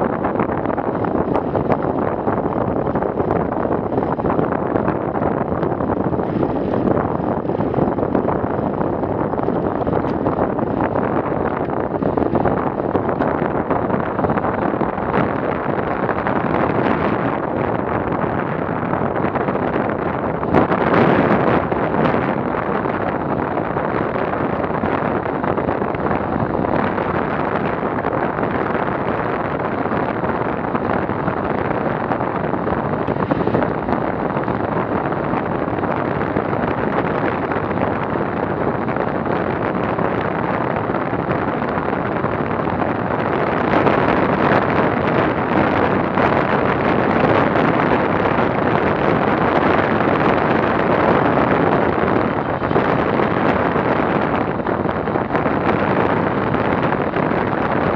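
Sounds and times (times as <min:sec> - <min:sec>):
wind noise on microphone: 0:00.0 - 0:57.9.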